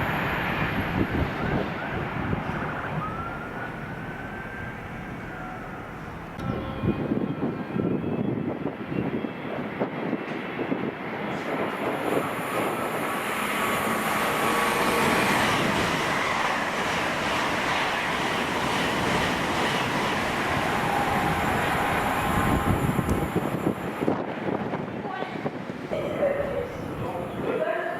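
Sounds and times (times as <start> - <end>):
train rumbling past: 0.0 - 27.9.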